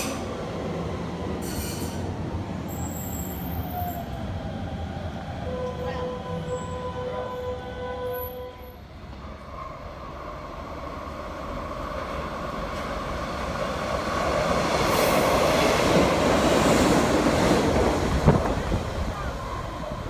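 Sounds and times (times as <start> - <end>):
electric train running past: 0.0 - 20.0
electric whine of departing train: 0.0 - 20.0.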